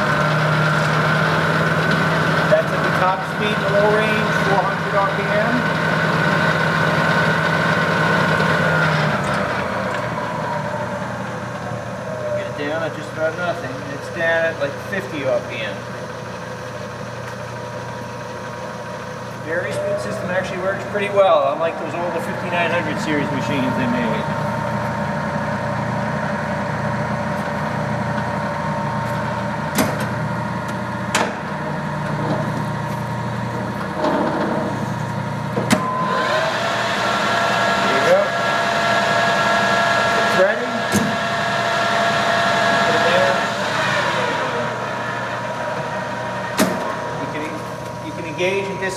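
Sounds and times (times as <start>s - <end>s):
lathe motor hum: 0.0s - 48.9s.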